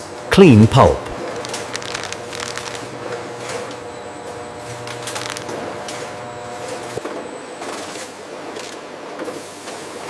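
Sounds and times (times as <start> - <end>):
machinery humming: 0.0 - 8.3.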